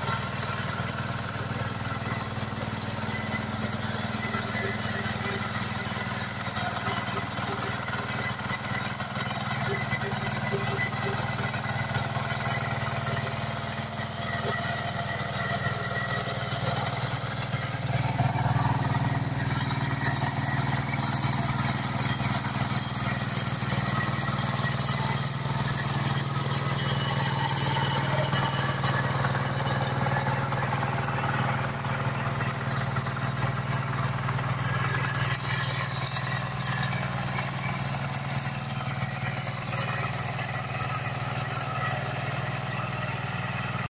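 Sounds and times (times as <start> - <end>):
rotary tines churning soil: 0.0 - 40.8
diesel engine running under load: 0.0 - 43.9.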